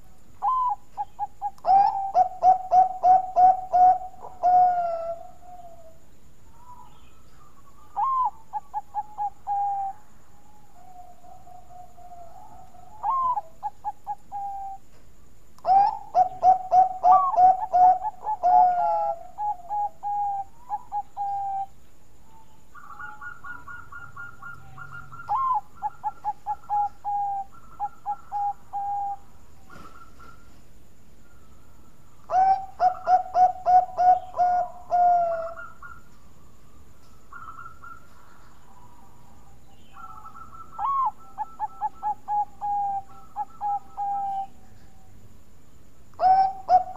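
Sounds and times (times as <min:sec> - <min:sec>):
dove cooing: 0:00.0 - 0:14.9, 0:15.6 - 0:30.6, 0:31.3 - 0:36.4, 0:37.2 - 0:45.2, 0:46.2 - 0:46.9.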